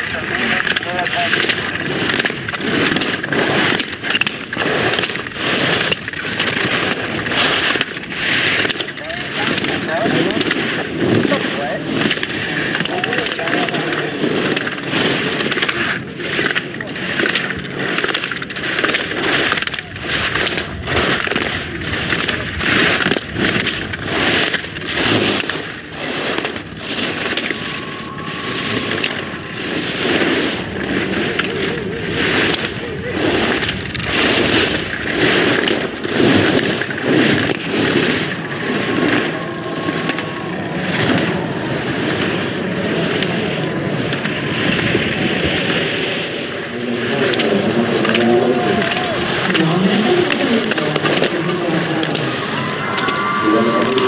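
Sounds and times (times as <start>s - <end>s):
skis carving on snow: 0.0s - 54.0s.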